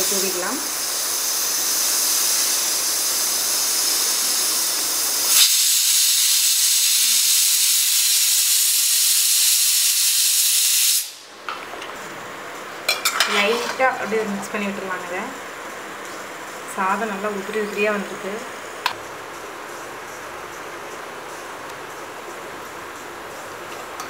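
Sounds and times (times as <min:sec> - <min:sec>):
loud steady hiss: 0:00.0 - 0:24.0.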